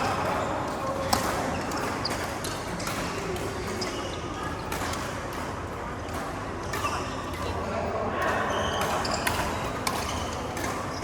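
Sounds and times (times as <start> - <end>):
racket hitting shuttlecock: 0.0 - 7.5, 8.2 - 11.0
murmur of voices: 0.0 - 11.0.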